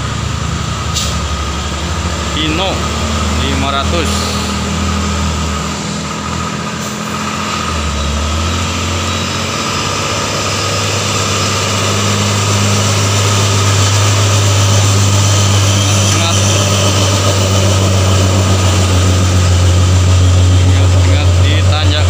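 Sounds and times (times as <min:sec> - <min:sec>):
diesel truck engine droning: 0:00.0 - 0:22.0.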